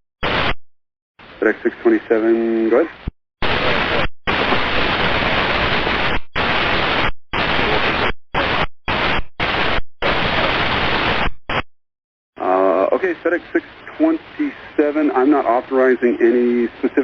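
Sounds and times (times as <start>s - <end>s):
radio static hiss: 0.2s - 0.6s, 1.2s - 11.6s, 12.4s - 17.0s.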